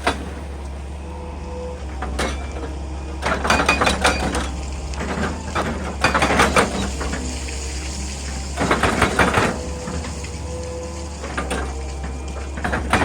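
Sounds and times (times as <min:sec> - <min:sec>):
excavator engine hum: 0:00.0 - 0:13.0
rock and earth crunching: 0:00.0 - 0:13.0.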